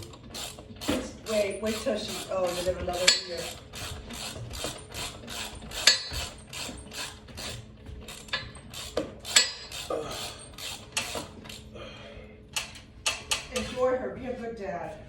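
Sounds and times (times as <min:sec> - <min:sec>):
ratchet wrench clicking: 0:00.1 - 0:11.6, 0:12.6 - 0:13.8.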